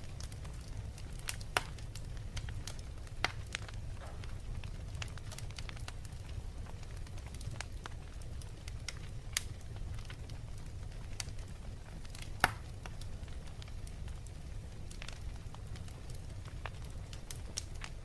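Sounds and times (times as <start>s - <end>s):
wood fire crackling: 0.0s - 18.0s
fire pops: 0.1s - 18.0s.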